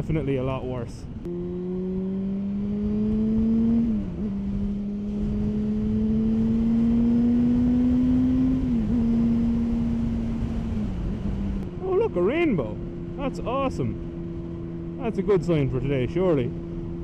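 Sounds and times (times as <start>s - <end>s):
wind and road noise: 0.0s - 17.0s
motorcycle engine running: 1.3s - 15.6s, 16.4s - 17.0s.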